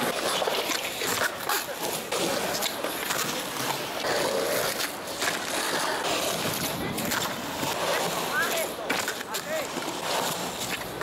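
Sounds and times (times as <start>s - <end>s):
skateboard clacking on ground: 0.0s - 11.0s
skateboard wheels on rough concrete: 0.0s - 11.0s.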